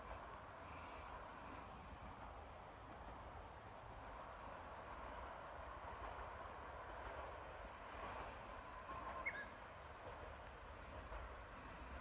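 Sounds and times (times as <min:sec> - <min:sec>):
distant diesel railcar rumble: 0:00.0 - 0:12.0.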